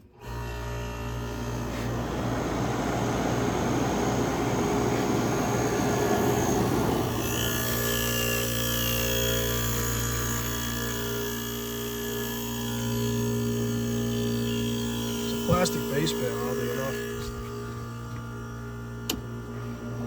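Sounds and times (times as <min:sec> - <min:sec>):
air conditioner compressor humming: 0:00.0 - 0:20.0
air conditioner fan rushing: 0:00.1 - 0:20.0.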